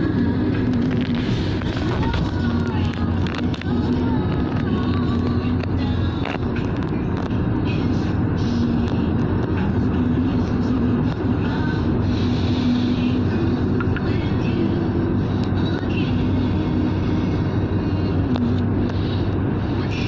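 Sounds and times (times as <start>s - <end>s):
car engine and tyre road noise: 0.0s - 20.0s.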